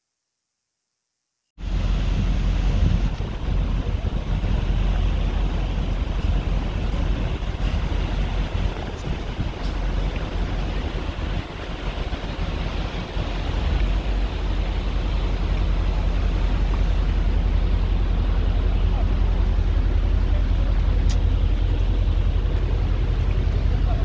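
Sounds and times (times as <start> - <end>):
low engine rumble: 1.6 - 24.0.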